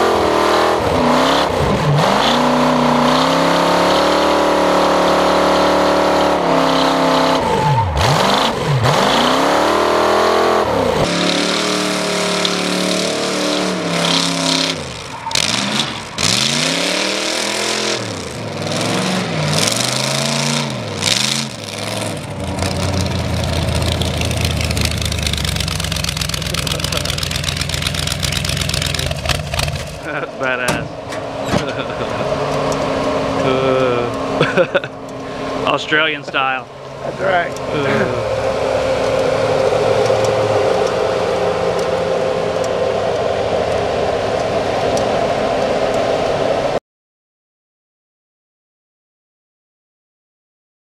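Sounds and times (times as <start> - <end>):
engine revving: 0.0 - 46.8
engine rumbling: 0.0 - 46.8.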